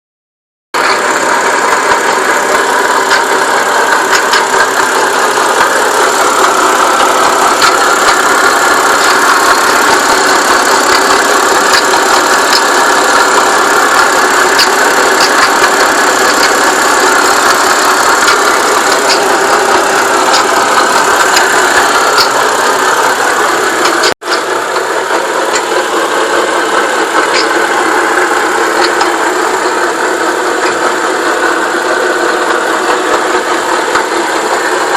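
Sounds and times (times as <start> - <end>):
car engine idling: 0.8 - 34.9
metallic rubbing noise: 0.8 - 34.9.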